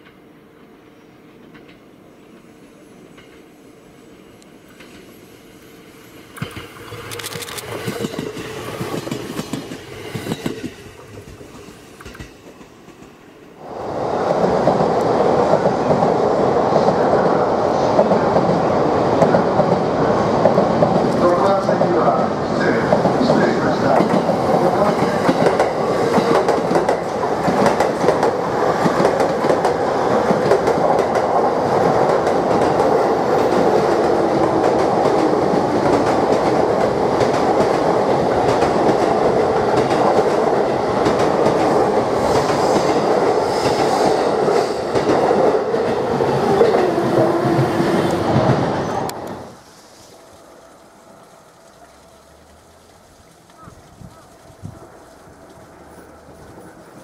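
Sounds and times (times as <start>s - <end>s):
electric train wheels on rails: 0.0s - 57.0s
faint outdoor background: 0.0s - 57.0s.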